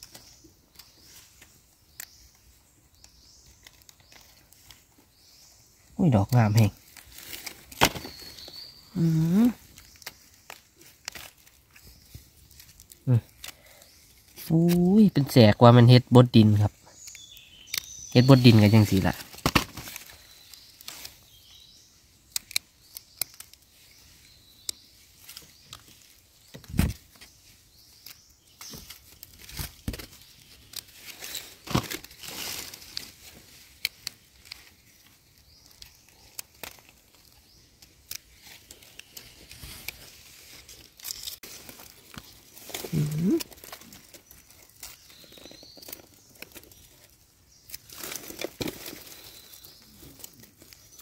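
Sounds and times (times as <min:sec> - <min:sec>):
dry leaves rustling and crackling: 0:00.0 - 0:51.0.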